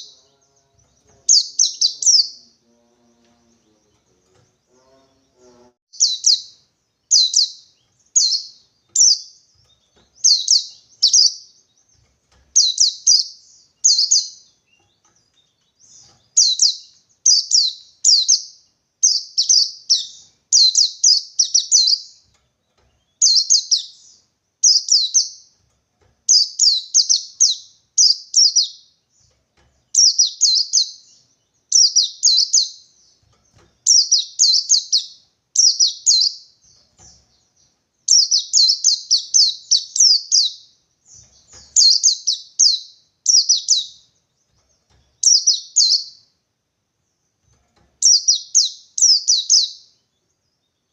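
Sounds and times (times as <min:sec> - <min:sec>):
bird high chirps: 0:00.0 - 0:46.4, 0:47.2 - 0:50.9.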